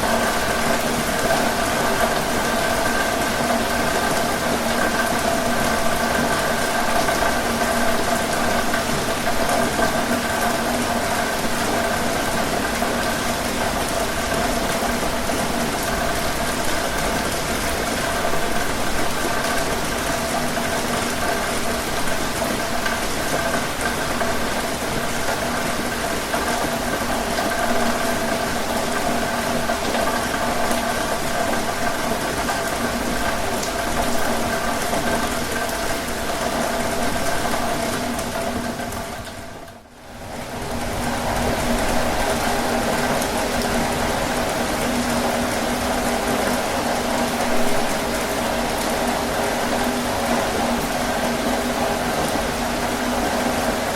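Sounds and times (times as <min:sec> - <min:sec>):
heavy rain on a tin roof: 0:00.0 - 0:53.9.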